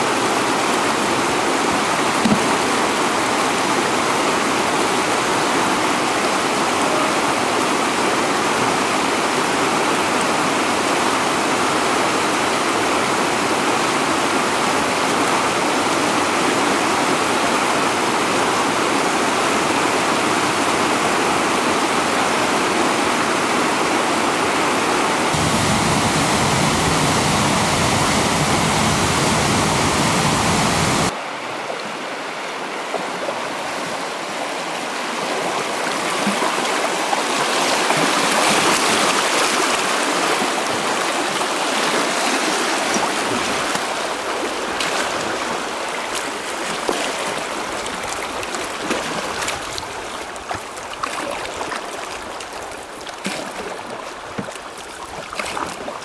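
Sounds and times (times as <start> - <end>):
river rapids rushing over rocks: 0.0 - 31.6, 32.2 - 56.0.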